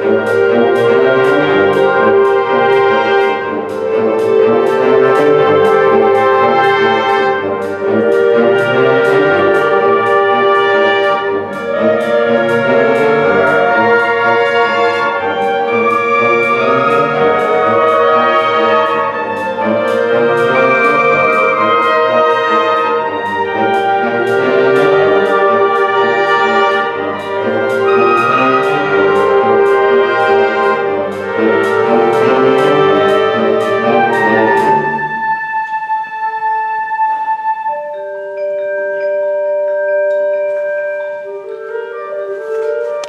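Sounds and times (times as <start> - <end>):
percussion strokes: 0.0 - 43.0
wind band playing: 0.0 - 43.0.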